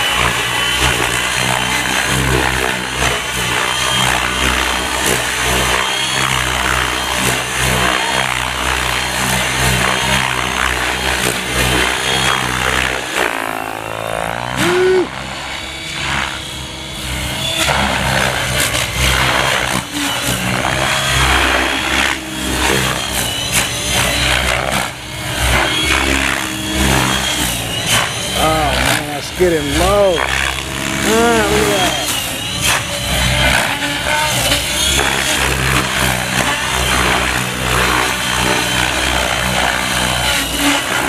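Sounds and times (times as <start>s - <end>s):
rc helicopter rotor drone: 0.0s - 41.0s.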